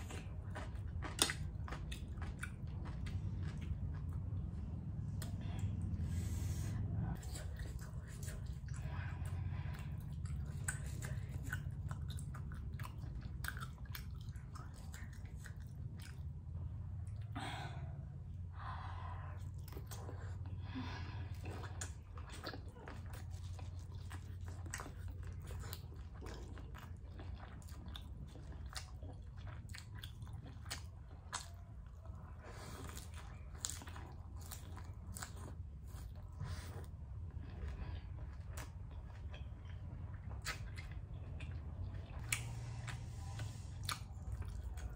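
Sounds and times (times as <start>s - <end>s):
chewing with wet mouth clicks: 0.0s - 6.0s, 7.0s - 17.3s, 19.4s - 44.9s
low hum: 0.0s - 44.9s.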